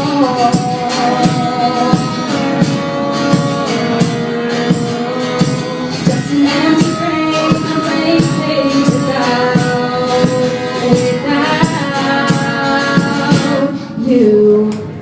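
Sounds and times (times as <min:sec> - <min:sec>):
percussion hits: 0:00.0 - 0:13.7
live pop-rock band playing: 0:00.0 - 0:14.0
person singing: 0:00.0 - 0:14.9.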